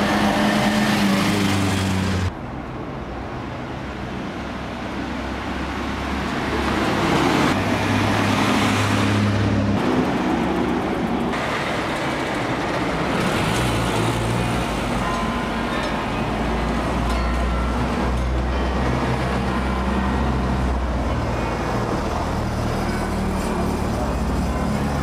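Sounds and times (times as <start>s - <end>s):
tyres on cobblestones: 0.0s - 25.0s.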